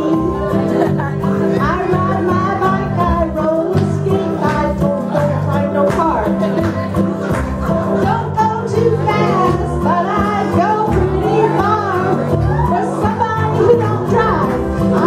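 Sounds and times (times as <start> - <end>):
recorded backing track: 0.0 - 15.0
woman singing karaoke: 0.0 - 15.0.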